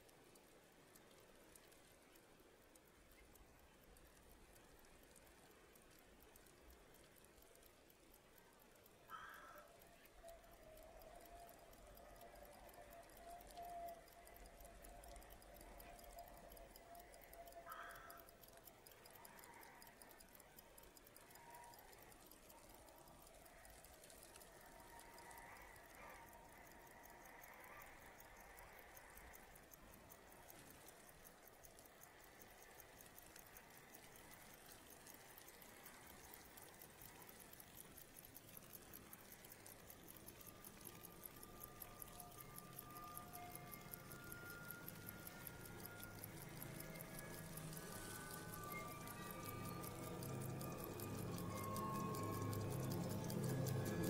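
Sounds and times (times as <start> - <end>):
faint hiss: 0.0 - 54.0
faint steady tone: 0.0 - 54.0
soft fine crackling: 0.0 - 54.0
wristwatch ticking: 0.0 - 54.0.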